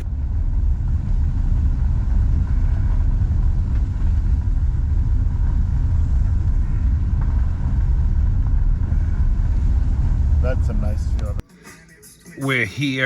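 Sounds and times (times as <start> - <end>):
car engine and road noise: 0.0 - 11.4.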